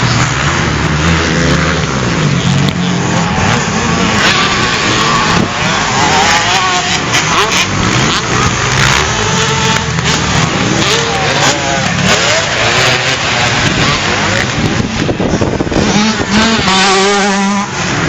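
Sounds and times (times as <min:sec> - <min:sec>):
motocross engines revving: 0:00.0 - 0:18.0.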